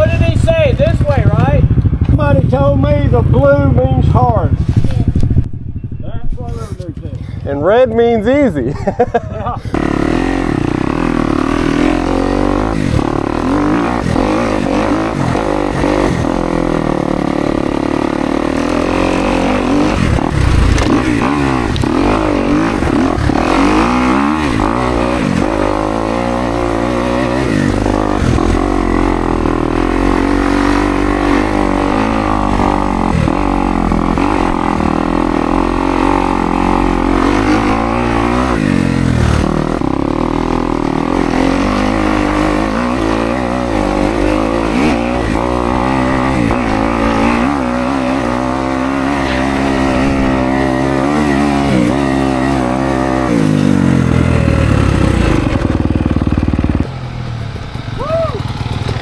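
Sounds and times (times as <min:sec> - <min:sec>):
dirt bike engine revving: 0:00.0 - 0:06.0, 0:07.6 - 0:59.0.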